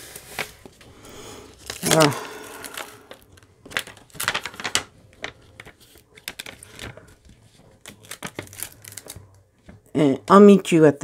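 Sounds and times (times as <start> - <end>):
paper crinkling and rustling: 0.0 - 9.9.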